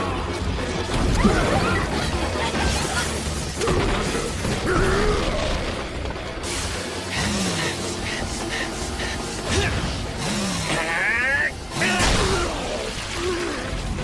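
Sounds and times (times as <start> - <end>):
fight scene music: 0.0 - 14.0.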